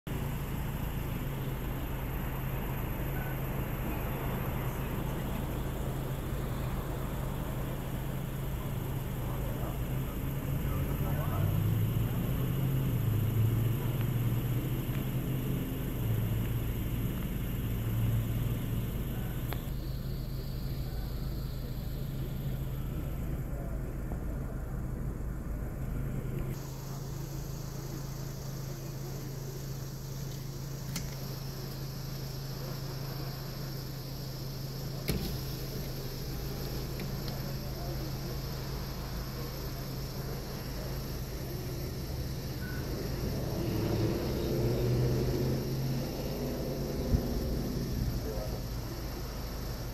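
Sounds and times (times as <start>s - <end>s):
low engine hum: 0.0s - 49.9s
street traffic noise: 0.0s - 49.9s
background hiss: 0.1s - 49.9s.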